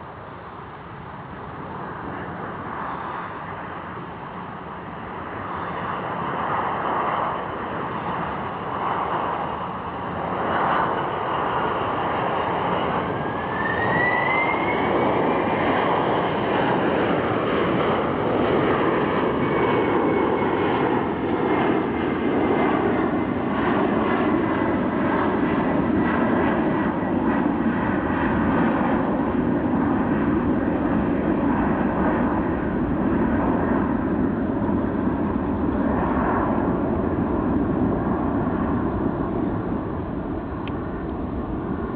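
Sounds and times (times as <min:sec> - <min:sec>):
jet engine roar: 0:00.0 - 0:41.9
jet engine whine: 0:00.0 - 0:41.9.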